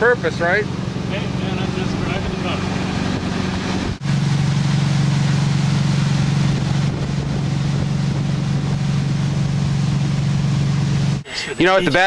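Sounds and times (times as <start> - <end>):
motorboat engine running: 0.0 - 12.0
water noise: 0.0 - 12.0
wind: 0.0 - 12.0.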